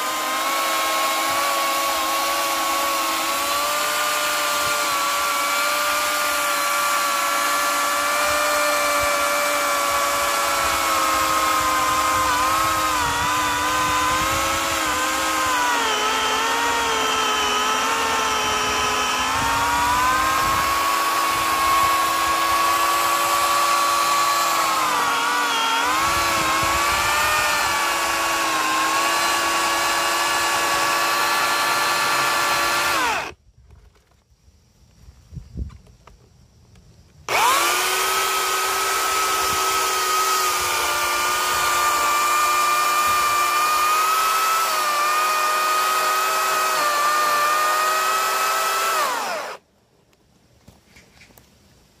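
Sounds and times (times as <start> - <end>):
electric chainsaw cutting log: 0.0 - 33.4, 37.3 - 49.6.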